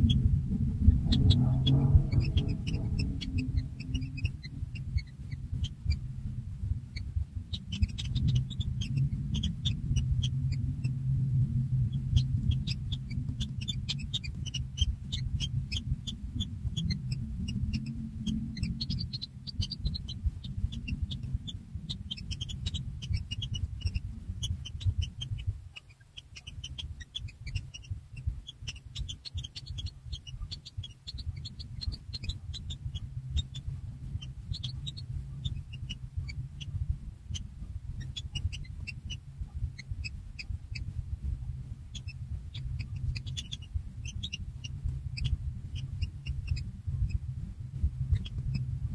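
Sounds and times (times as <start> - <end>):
nestling birds chirping: 0.0 - 47.3, 47.9 - 48.9
low rumble: 0.0 - 48.9.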